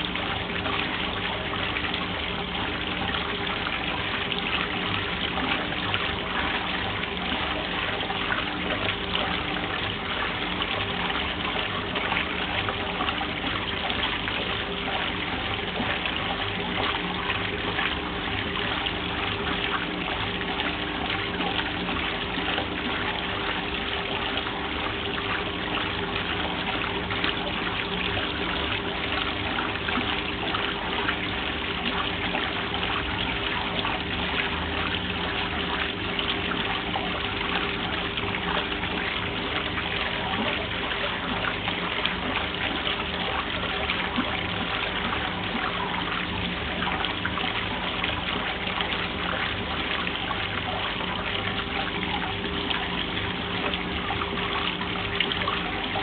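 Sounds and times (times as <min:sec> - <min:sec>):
water churning and sloshing: 0:00.0 - 0:56.0.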